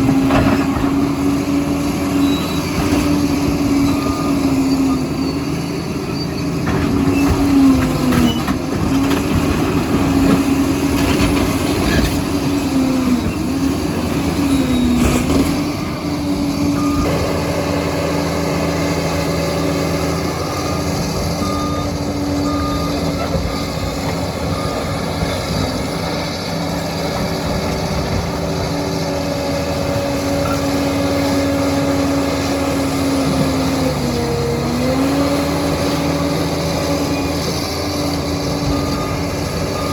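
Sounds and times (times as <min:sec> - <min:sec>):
diesel dozer engine running: 0:00.0 - 0:39.9.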